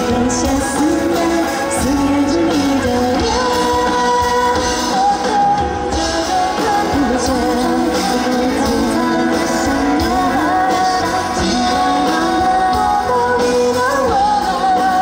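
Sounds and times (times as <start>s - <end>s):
lead vocalist singing: 0.0s - 15.0s
live pop-rock band: 0.0s - 15.0s.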